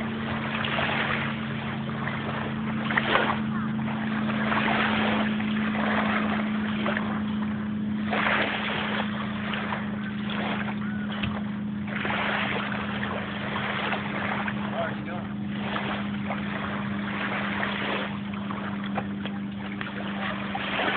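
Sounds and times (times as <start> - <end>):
distant motorboat engine drone: 0.0 - 20.9.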